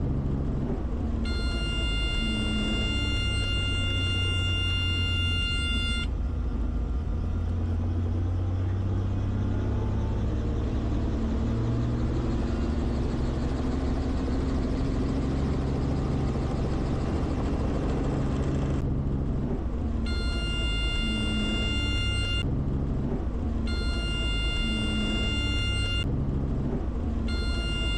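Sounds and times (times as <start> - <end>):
helicopter rotor and engine drone: 0.0 - 27.9.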